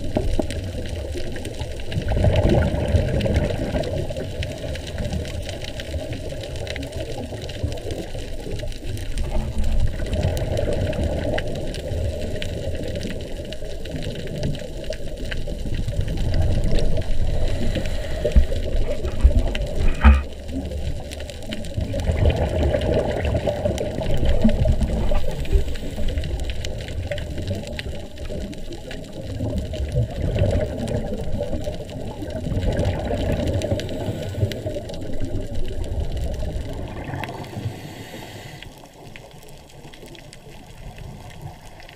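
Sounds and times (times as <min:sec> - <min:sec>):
underwater bubbles gurgling: 0:00.0 - 0:41.9.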